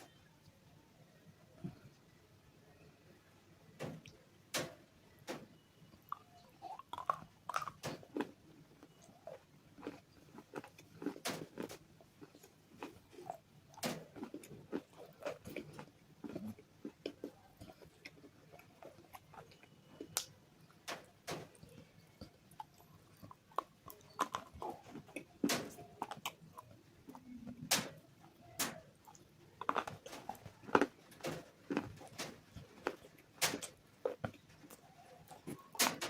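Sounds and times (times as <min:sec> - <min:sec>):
chewing crackle: 0:05.9 - 0:35.8
crunching hard bars: 0:06.1 - 0:36.0.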